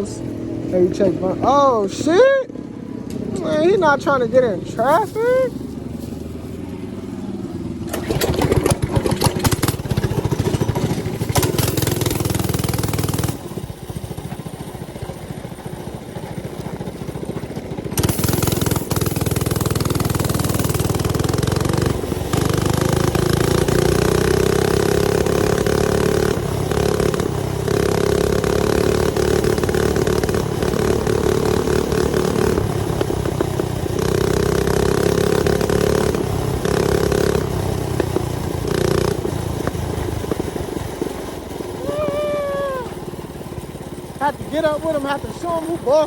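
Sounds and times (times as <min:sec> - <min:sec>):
mini bike engine revving: 0:00.0 - 0:46.0.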